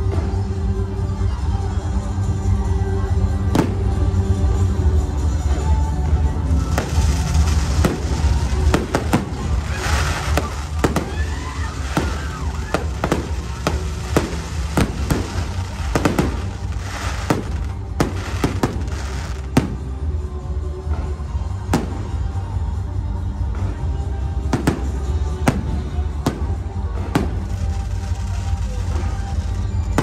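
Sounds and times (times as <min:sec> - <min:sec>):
loud music with deep bass: 0:00.0 - 0:30.0
fireworks bursting overhead: 0:03.2 - 0:20.3, 0:21.1 - 0:30.0.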